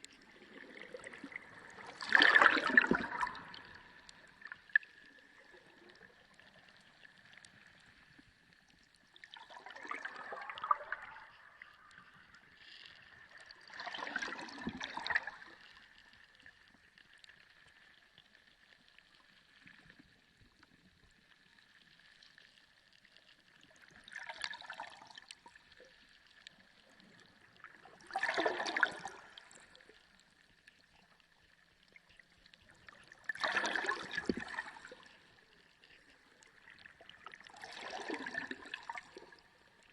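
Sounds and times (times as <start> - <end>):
sea water gurgling and sloshing: 0.0 - 39.9.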